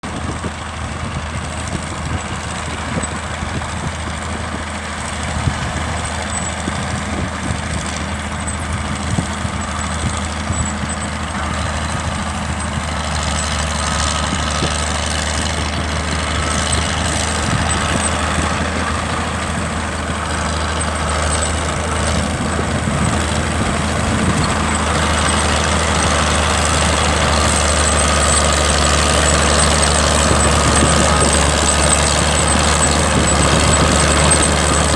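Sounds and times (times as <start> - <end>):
diesel tractor engine humming: 0.0 - 34.9.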